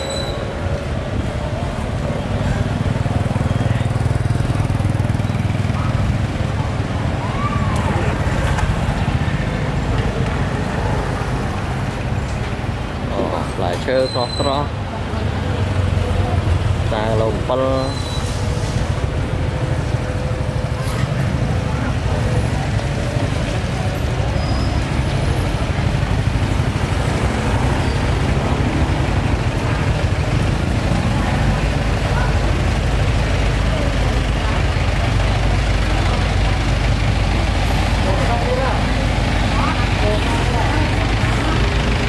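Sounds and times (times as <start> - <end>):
murmur of voices: 0.0 - 42.0
road traffic rumble: 0.0 - 42.0.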